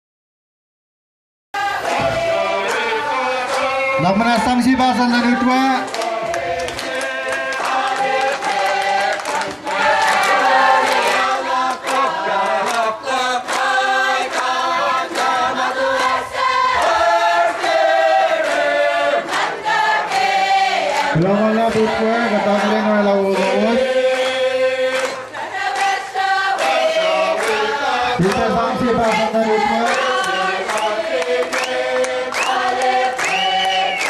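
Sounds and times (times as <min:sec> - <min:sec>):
women singing in chorus: 0:01.6 - 0:04.0, 0:05.0 - 0:21.2, 0:23.6 - 0:34.0.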